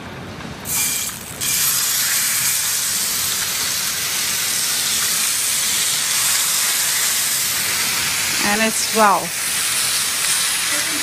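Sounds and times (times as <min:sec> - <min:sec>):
steaks sizzling in a grill pan: 0:00.7 - 0:11.0.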